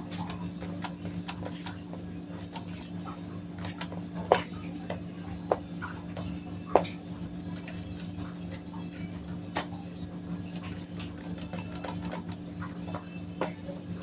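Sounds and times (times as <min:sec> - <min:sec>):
small ticks and crackles: 0:00.0 - 0:14.0.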